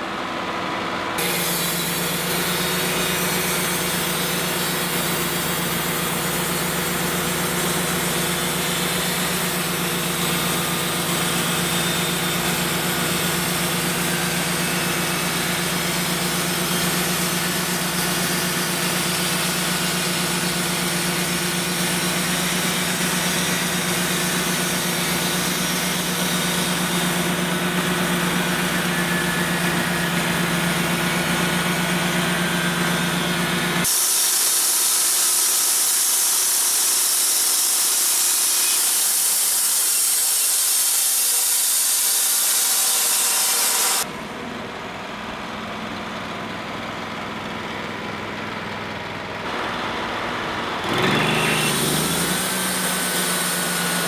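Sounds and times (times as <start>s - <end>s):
sawmill engine idling: 0.0s - 54.0s
band saw cutting log: 1.2s - 44.3s, 49.5s - 54.0s.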